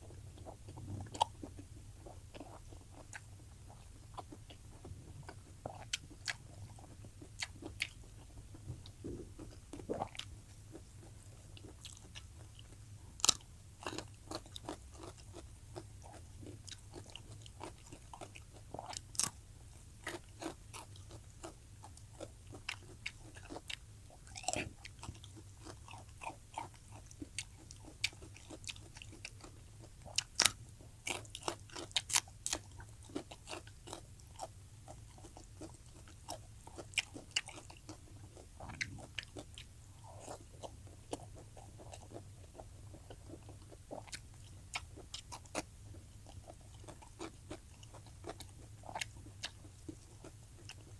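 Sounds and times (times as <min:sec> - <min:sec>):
person eating close up: 0:00.0 - 0:50.9.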